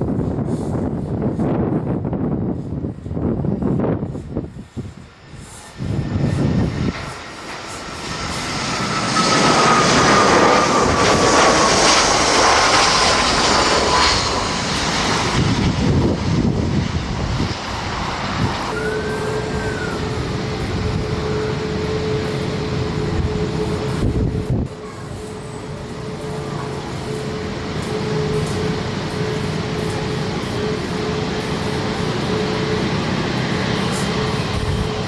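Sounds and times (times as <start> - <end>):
jet airliner passing: 0.0 - 35.0
jet engine hum: 0.0 - 35.0.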